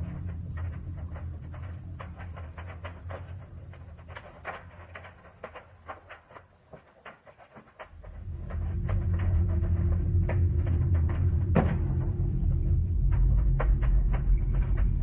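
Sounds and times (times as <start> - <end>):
low rumble: 0.0 - 6.2, 7.9 - 15.0.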